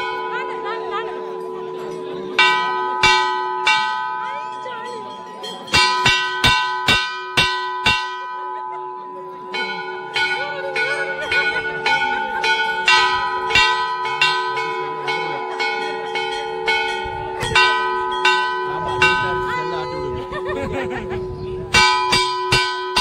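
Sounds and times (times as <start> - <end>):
temple bells ringing: 0.0 - 23.0.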